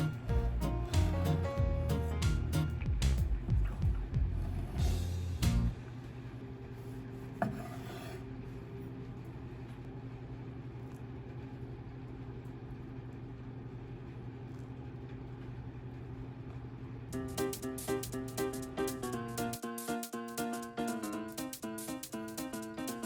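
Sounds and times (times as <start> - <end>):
microwave oven humming: 0.0 - 7.5, 8.2 - 23.0.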